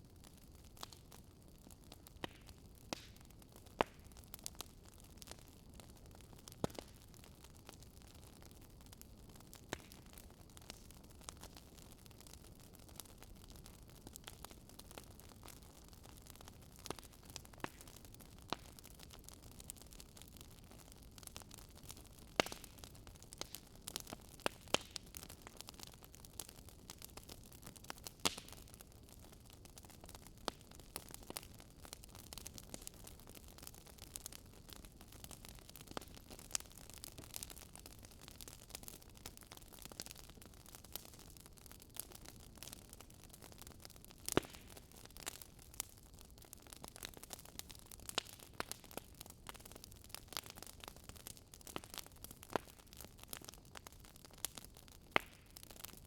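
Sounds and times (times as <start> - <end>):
wood fire crackling: 0.1 - 56.0.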